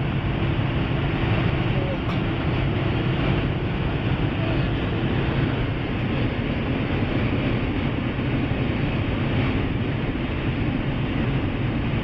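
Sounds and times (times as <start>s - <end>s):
car engine drone: 0.0s - 12.0s
wind noise: 0.0s - 12.0s.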